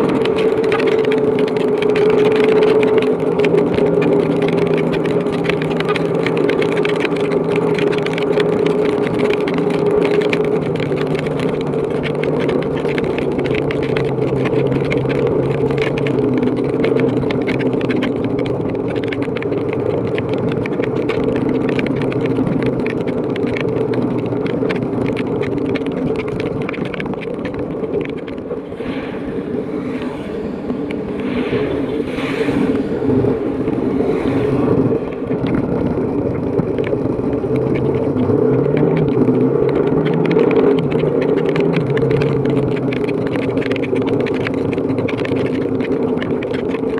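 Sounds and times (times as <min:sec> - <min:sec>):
heavy rain: 0:00.0 - 0:46.9
motorcycle engine running: 0:00.0 - 0:46.9
wind noise: 0:00.0 - 0:46.9.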